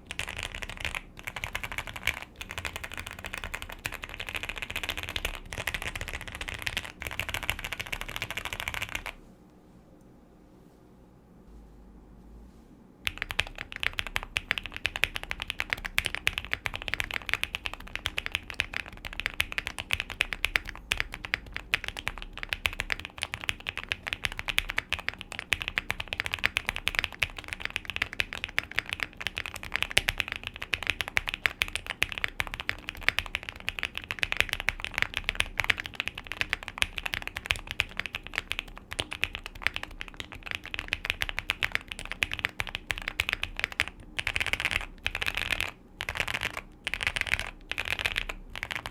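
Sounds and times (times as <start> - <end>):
fast typing on mechanical keyboard: 0.0 - 9.2, 13.1 - 48.9.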